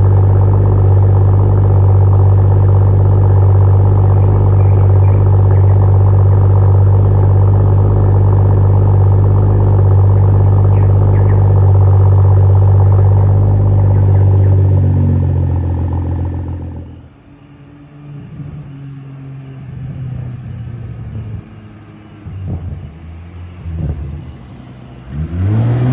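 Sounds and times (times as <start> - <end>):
car exhaust droning: 0.0 - 25.9.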